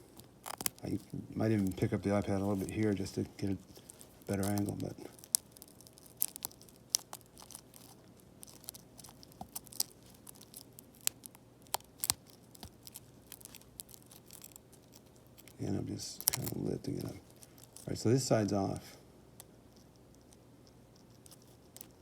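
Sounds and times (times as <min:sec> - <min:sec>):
small clicks and crackles of prying: 0:00.0 - 0:15.6, 0:16.2 - 0:17.9, 0:19.4 - 0:22.0
faint steady hum: 0:00.0 - 0:22.0.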